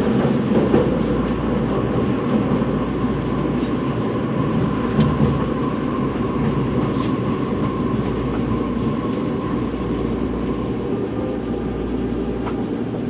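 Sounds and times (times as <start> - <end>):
subway train running rumble: 0.0 - 13.0.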